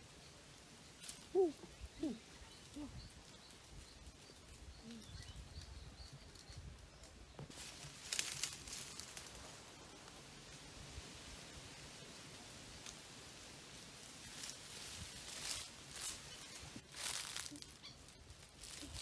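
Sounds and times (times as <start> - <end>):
rustling through dry undergrowth: 0.0 - 19.0.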